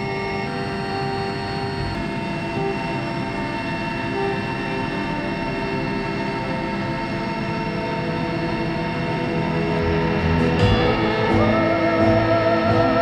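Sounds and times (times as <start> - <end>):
helicopter turbine and rotor drone: 0.0 - 13.0.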